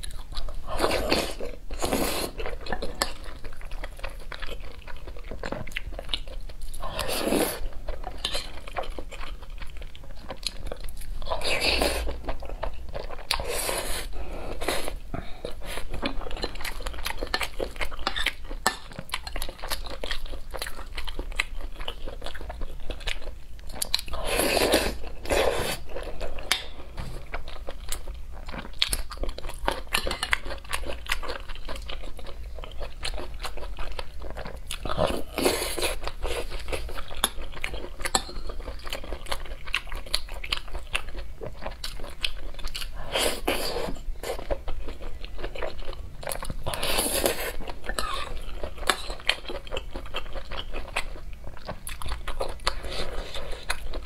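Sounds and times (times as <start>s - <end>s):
chewing and mouth sounds: 0.0s - 54.0s.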